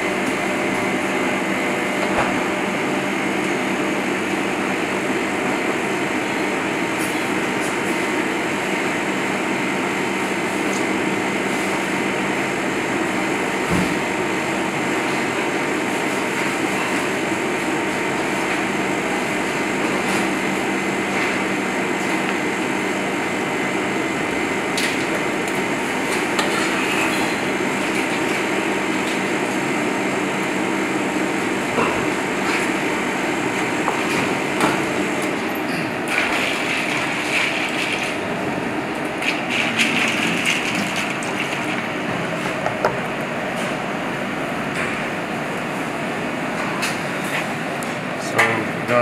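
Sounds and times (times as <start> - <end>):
kitchen ventilation whir: 0.0 - 49.0.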